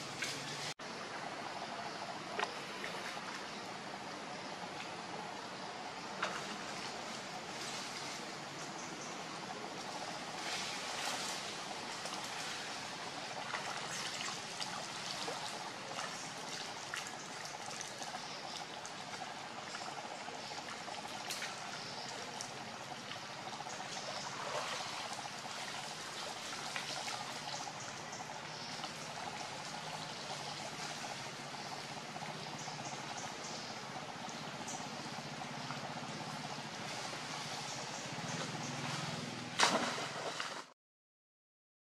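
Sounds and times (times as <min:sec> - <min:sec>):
rushing outdoor background noise: 0:00.0 - 0:40.7.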